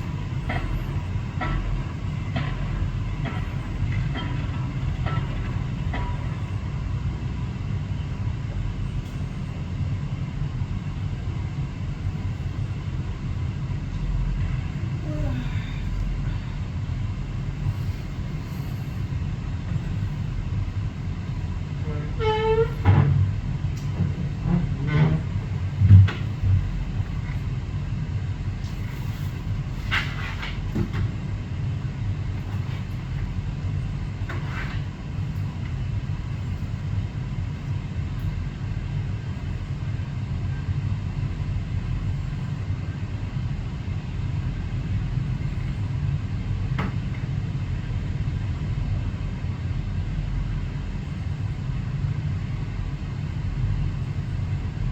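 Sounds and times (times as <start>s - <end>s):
low engine drone: 0.0s - 54.9s.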